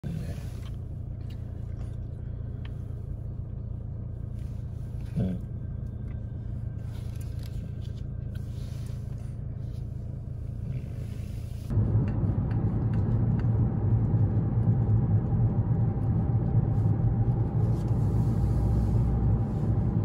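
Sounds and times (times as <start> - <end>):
car engine rumble from inside: 0.0 - 20.0.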